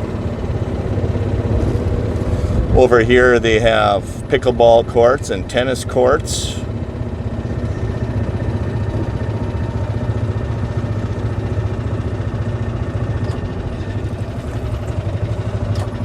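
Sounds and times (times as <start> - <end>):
golf cart engine hum: 0.0 - 16.0.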